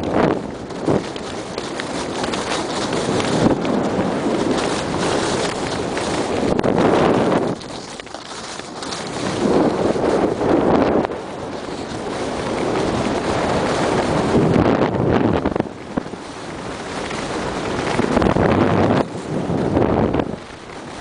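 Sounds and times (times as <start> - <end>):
skis scraping on snow: 0.0 - 21.0
wind rushing over microphone: 0.0 - 21.0.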